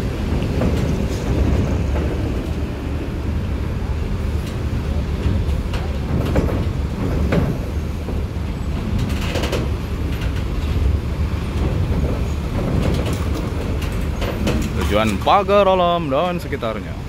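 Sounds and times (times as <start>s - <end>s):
knocks and clanks: 0.0s - 3.3s, 4.4s - 15.4s
bus diesel engines rumbling: 0.0s - 17.0s.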